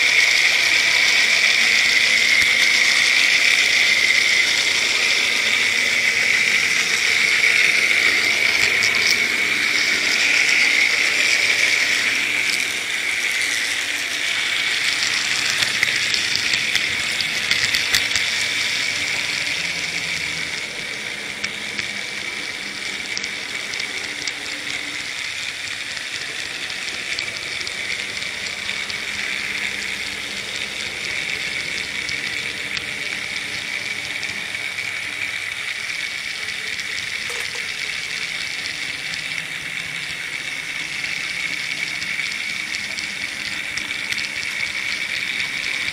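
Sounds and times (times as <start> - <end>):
model train motor whirring: 0.0 - 45.9.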